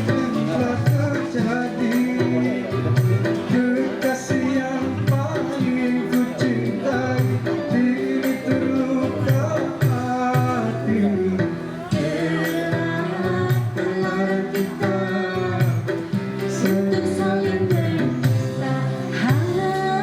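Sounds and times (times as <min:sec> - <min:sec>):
pop love song with singing: 0:00.0 - 0:20.0.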